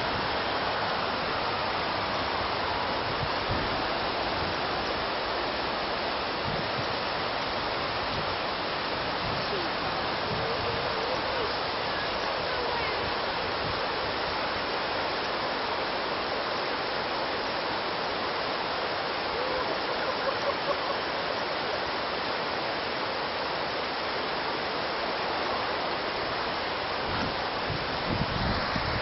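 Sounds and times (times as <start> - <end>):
whitewater rushing: 0.0 - 29.0.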